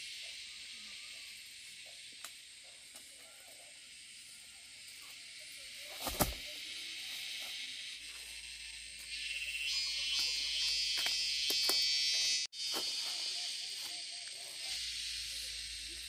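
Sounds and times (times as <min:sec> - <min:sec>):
insects hissing: 0:00.0 - 0:16.0.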